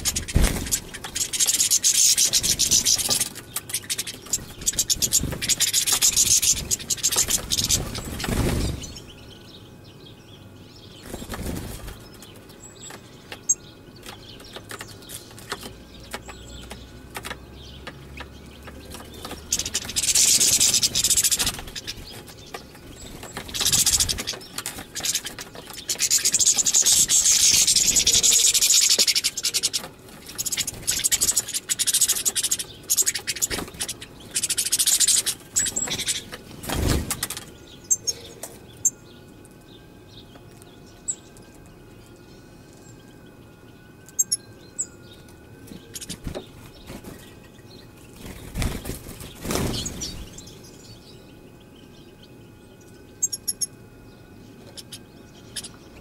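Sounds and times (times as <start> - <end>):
goldfinch singing: 0.0 - 36.4, 42.2 - 53.8, 54.5 - 56.0.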